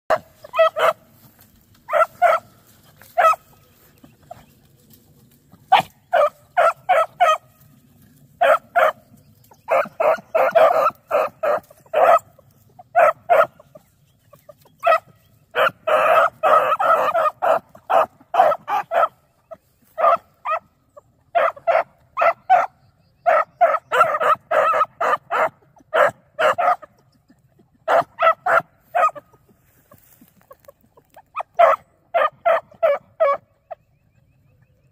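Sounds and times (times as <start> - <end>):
puppies yipping and barking: 0.1 - 34.9.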